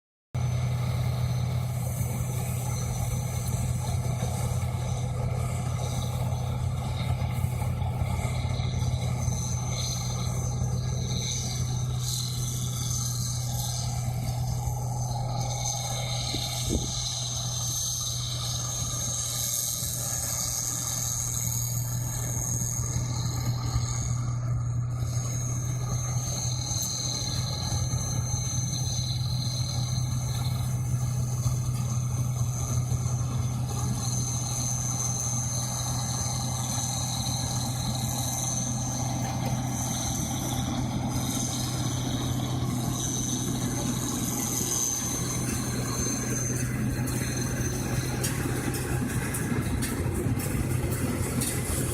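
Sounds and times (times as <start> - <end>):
combine harvester engine droning: 0.4 - 51.9
thin high whine: 0.4 - 51.9.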